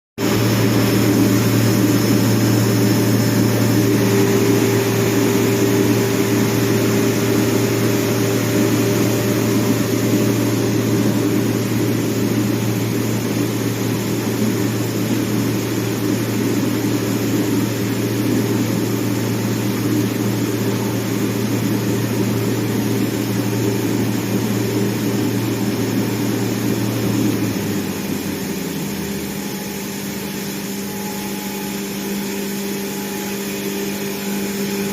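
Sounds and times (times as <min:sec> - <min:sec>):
low hum: 0:00.2 - 0:31.8.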